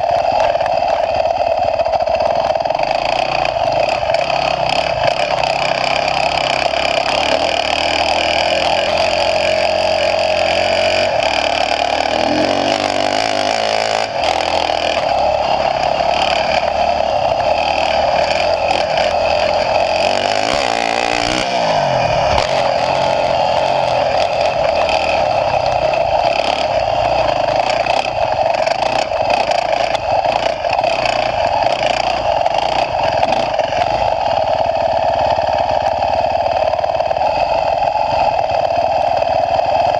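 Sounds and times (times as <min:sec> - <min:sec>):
motocross bike engine running hard: 0:00.0 - 0:39.9.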